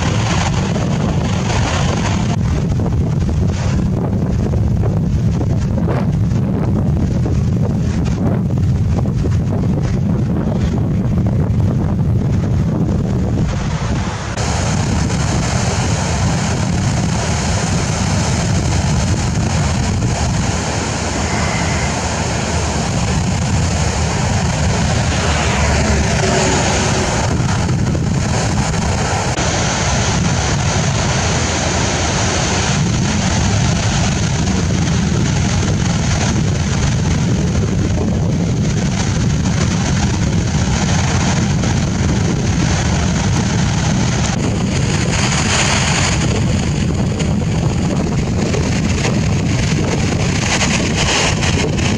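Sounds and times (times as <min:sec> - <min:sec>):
floodwater rushing over weirs: 0:00.0 - 0:51.9
wind buffeting microphone: 0:00.0 - 0:51.9.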